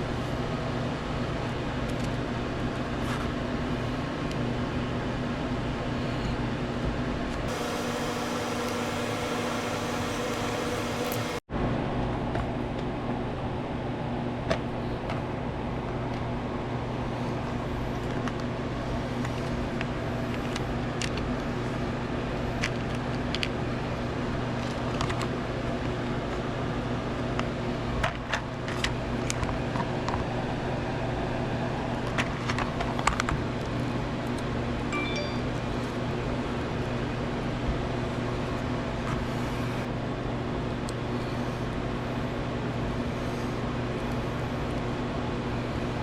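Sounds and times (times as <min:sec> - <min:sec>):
low electrical hum: 0:00.0 - 0:46.0.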